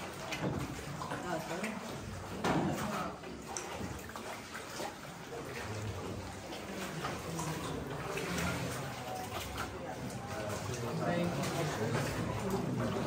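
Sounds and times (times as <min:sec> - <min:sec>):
oars splashing in water: 0:00.0 - 0:13.0
water sloshing and lapping: 0:00.0 - 0:13.0.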